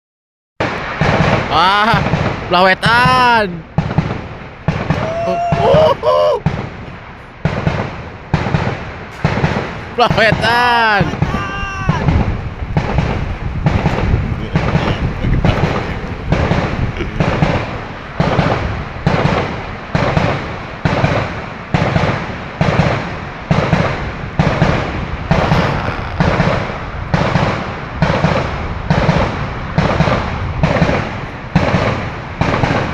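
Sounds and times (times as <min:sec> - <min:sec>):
fireworks bangs: 0:00.6 - 0:32.9.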